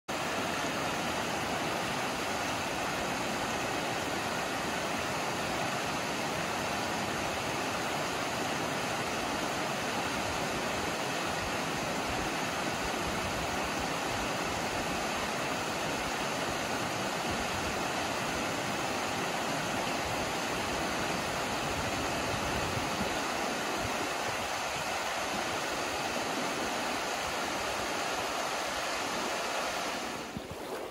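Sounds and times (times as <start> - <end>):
creek rushing over stones: 0.1 - 30.9.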